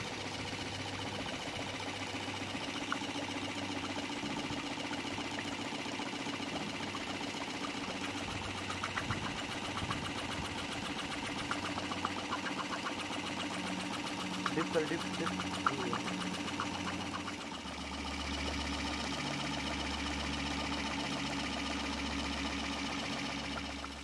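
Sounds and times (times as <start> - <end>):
piston air compressor running: 0.0 - 24.0.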